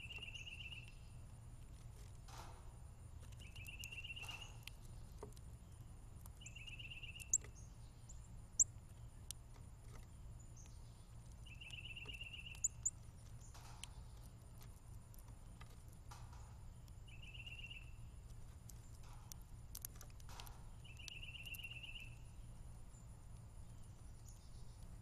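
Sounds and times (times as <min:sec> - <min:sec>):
songbird trill: 0:00.0 - 0:01.4, 0:02.4 - 0:25.0.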